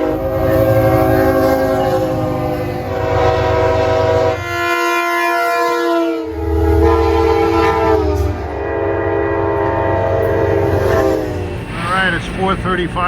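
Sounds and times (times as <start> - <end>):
train horn blast: 0.0 - 11.6
low rumble of train: 0.0 - 13.0.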